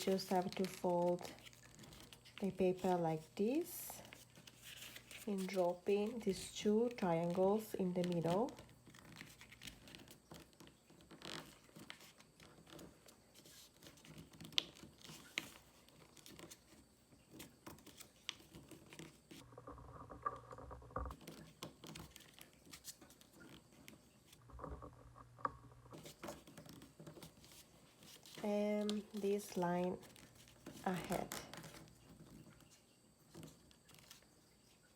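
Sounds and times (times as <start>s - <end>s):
paper rustling and crinkling: 0.0s - 24.9s, 25.8s - 34.9s
fingers tapping and scraping paper: 0.0s - 34.3s.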